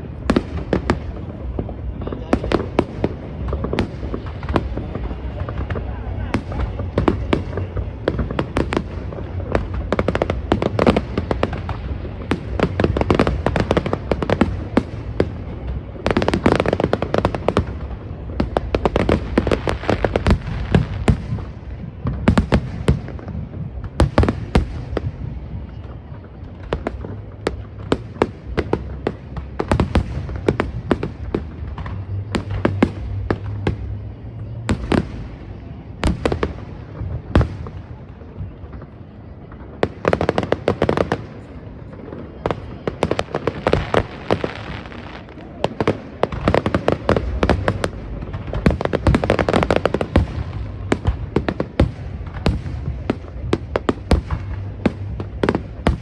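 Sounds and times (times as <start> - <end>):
fireworks bangs and crackles: 0.0 - 56.0
steady low rumble: 0.0 - 56.0.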